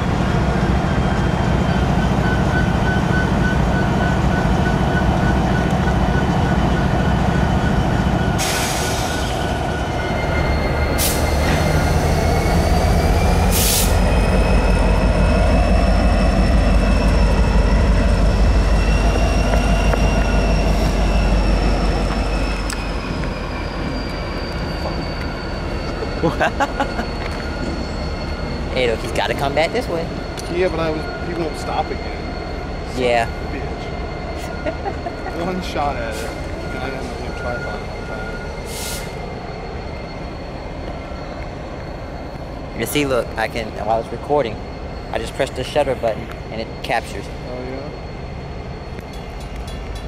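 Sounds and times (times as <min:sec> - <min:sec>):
locomotive engine rumbling: 0:00.0 - 0:50.0
wheels squealing on rails: 0:00.0 - 0:50.0.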